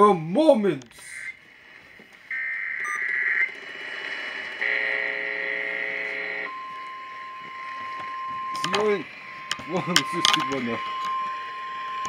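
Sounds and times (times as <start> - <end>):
harsh buzzy data bursts: 1.1 - 12.0.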